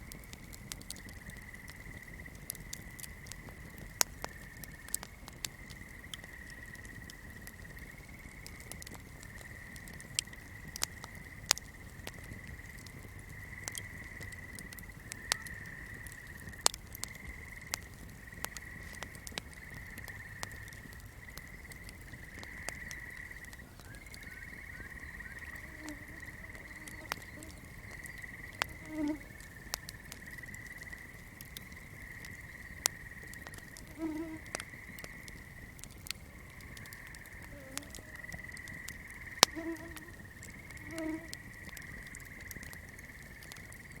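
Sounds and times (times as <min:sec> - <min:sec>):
flame crackling: 0:00.0 - 0:44.0
frogs and insects trilling: 0:00.0 - 0:44.0
low croaking calls: 0:00.0 - 0:44.0.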